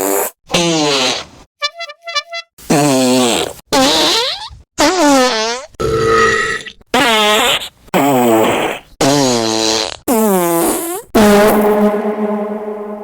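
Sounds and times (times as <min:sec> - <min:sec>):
cartoon fart sound effects: 0:00.0 - 0:12.1.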